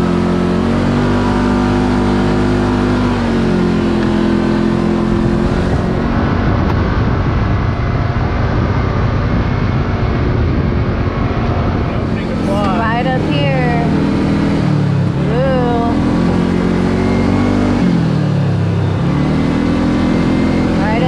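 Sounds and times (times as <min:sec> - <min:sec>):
rough noisy rumble: 0:00.0 - 0:21.0
vehicle engine running: 0:00.0 - 0:21.0.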